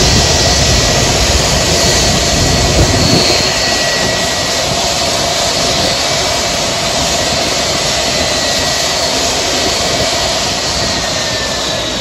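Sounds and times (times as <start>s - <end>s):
jet turbine roar with whine: 0.0s - 12.0s.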